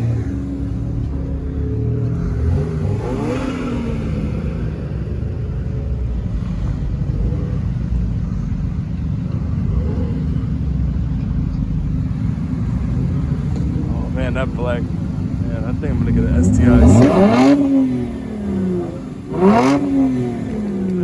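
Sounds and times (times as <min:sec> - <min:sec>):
car engine revving: 0:00.0 - 0:21.0
low engine rumble: 0:00.0 - 0:21.0.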